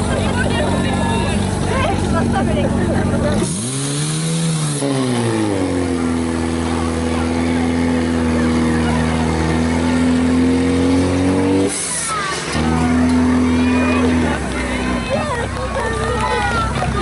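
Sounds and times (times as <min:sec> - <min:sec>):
pump engine running at high revs: 0:00.0 - 0:17.0.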